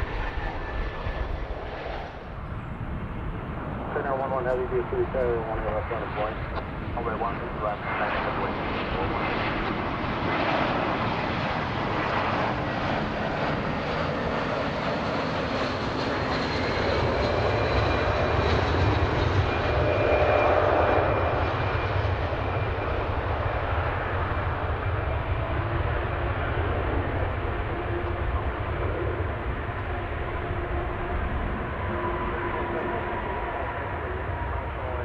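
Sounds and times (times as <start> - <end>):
faint high engine whine: 0.0 - 35.0
jet engines rushing: 0.0 - 35.0.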